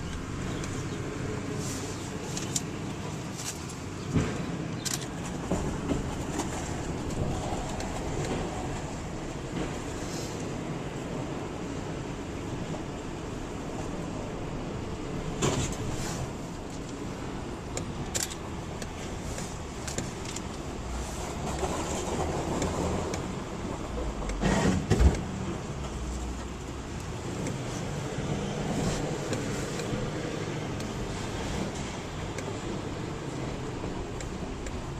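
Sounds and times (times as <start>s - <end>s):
vehicle engines rumbling: 0.0s - 34.9s.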